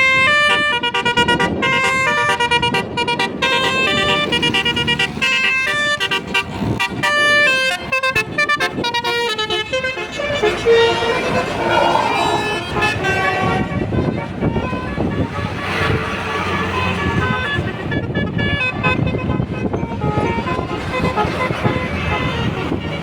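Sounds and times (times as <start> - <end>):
bus engine running: 0.0 - 23.0
multi-tone bus horn melody: 0.0 - 23.0.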